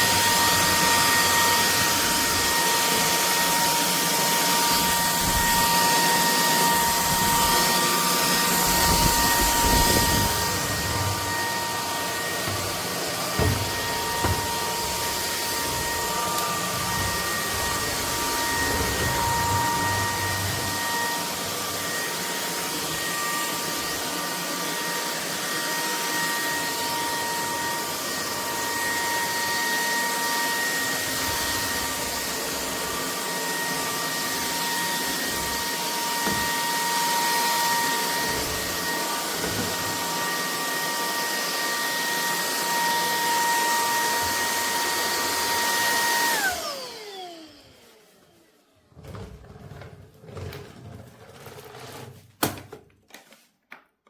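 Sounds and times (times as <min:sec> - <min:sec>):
stick vacuum running: 0:00.0 - 0:52.6.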